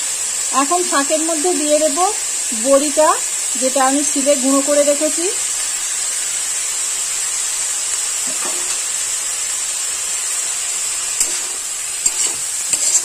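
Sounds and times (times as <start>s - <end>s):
greens sizzling in a wok: 0.0s - 13.0s.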